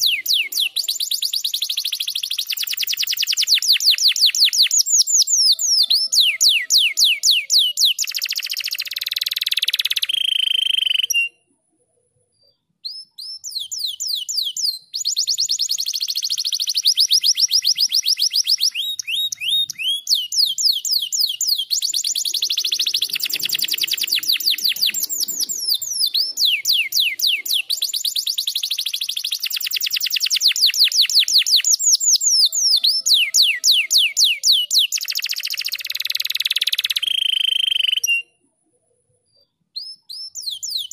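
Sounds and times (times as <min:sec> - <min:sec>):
canary singing trills: 0:00.0 - 0:11.5, 0:12.4 - 0:38.4.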